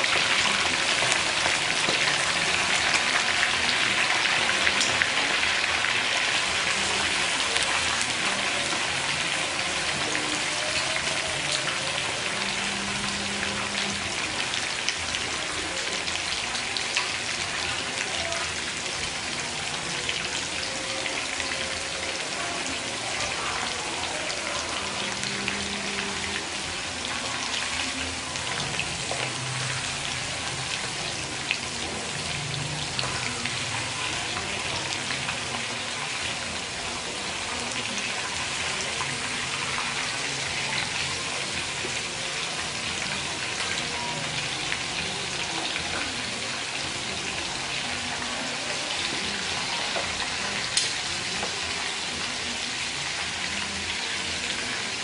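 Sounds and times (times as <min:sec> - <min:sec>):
meat sizzling in hot oil: 0:00.0 - 0:55.0.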